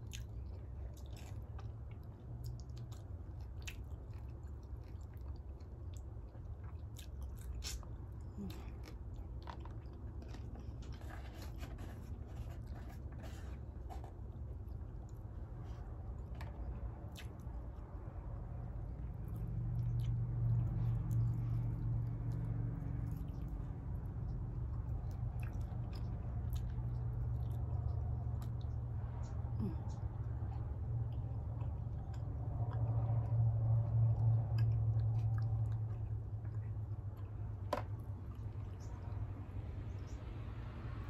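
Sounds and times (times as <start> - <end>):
chewing and eating: 0.0 - 41.0
steady low hum: 0.0 - 41.0.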